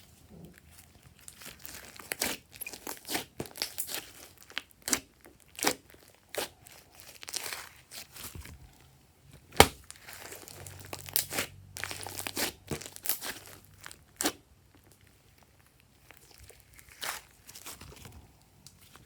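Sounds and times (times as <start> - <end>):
slime squishing: 0.0 - 19.0
sticky crackles: 0.3 - 8.8, 9.4 - 19.0.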